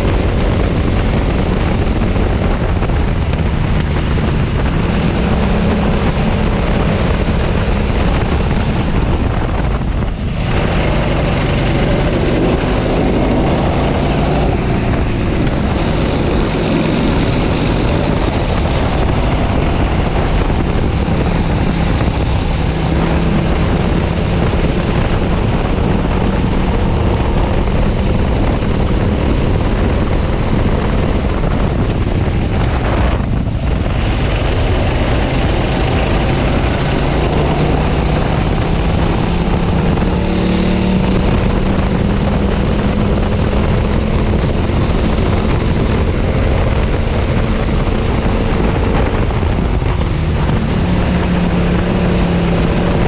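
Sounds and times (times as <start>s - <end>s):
kart engine: 0.0s - 53.0s
wind buffeting microphone: 0.0s - 53.0s.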